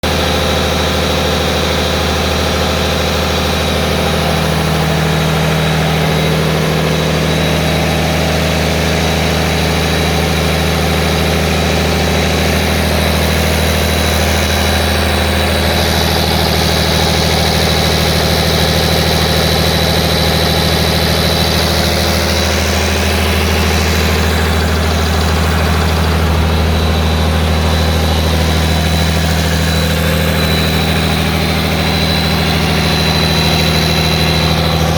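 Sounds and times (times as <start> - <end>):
diesel engine idling: 0.0 - 34.9
high whine: 0.0 - 34.9.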